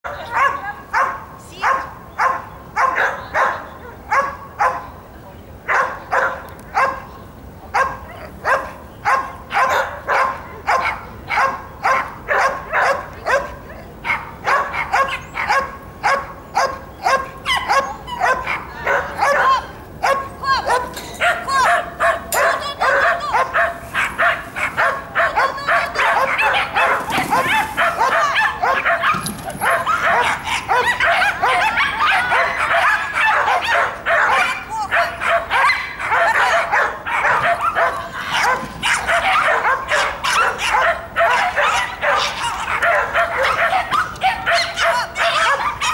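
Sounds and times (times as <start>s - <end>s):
dog barking: 0.2s - 4.9s, 5.7s - 7.0s, 7.8s - 45.9s.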